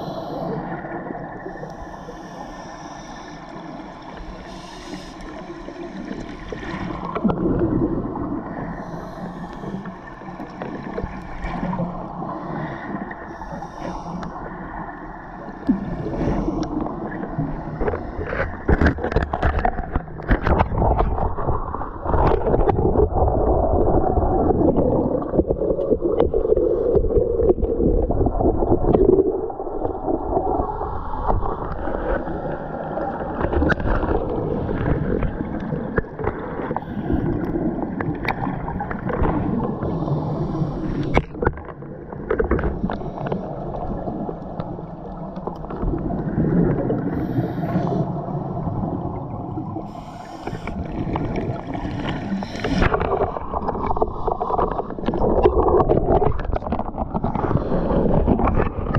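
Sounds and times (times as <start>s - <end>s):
low underwater rumble: 0.0s - 58.9s
underwater bubbling gurgles: 0.0s - 58.9s.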